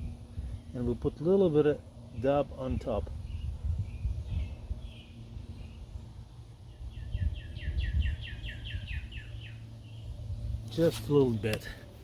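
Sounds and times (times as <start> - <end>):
low outdoor rumble: 0.0 - 12.0
songbird trilling chirps: 0.0 - 12.0.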